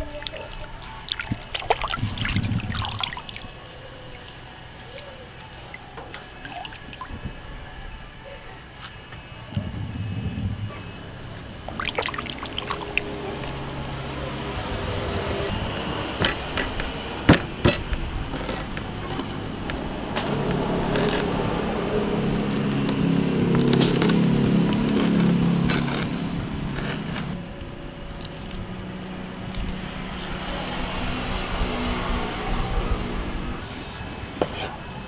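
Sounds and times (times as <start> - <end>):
low steady drone: 0.0 - 35.0.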